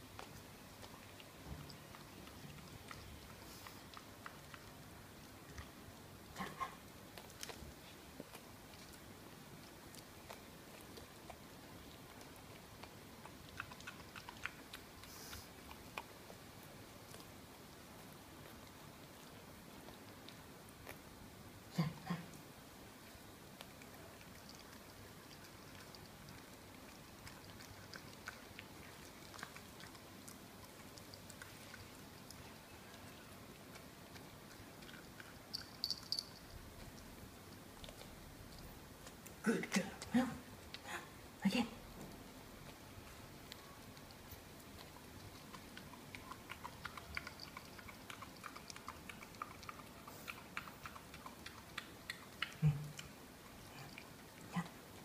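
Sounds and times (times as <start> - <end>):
puppy chewing bone: 0.0 - 21.4, 22.4 - 40.8, 41.9 - 55.0.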